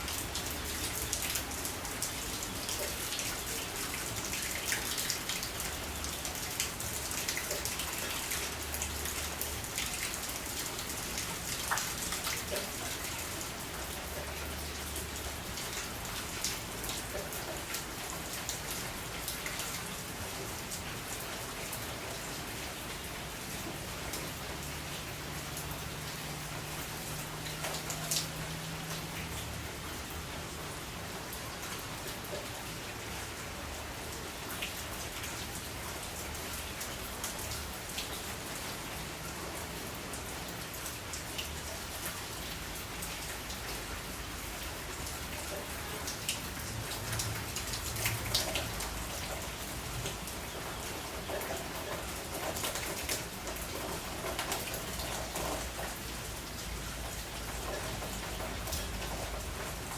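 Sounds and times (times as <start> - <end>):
raindrops ticking on hard surface: 0.0 - 23.0, 23.6 - 32.6, 34.1 - 59.9
steady rain falling: 0.0 - 59.9.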